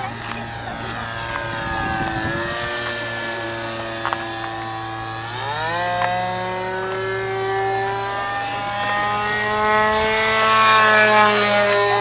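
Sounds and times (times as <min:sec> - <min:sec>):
electric model plane motor whining: 0:00.0 - 0:12.0.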